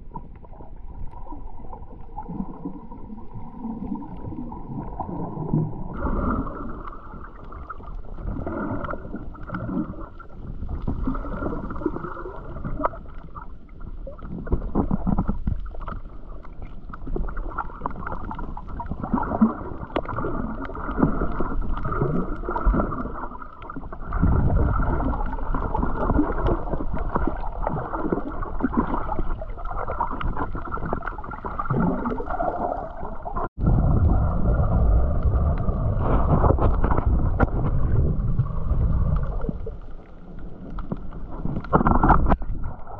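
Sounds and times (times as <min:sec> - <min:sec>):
low underwater rumble: 0:00.0 - 0:42.9
muffled underwater sloshing: 0:00.0 - 0:42.9.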